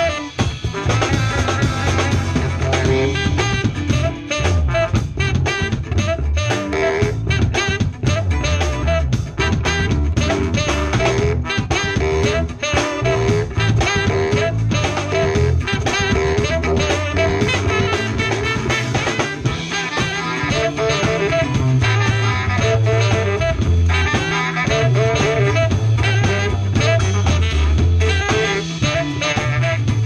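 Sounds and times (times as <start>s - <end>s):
bass line: 0.0s - 30.0s
drum kit: 0.0s - 30.0s
horns playing held notes: 0.0s - 30.0s.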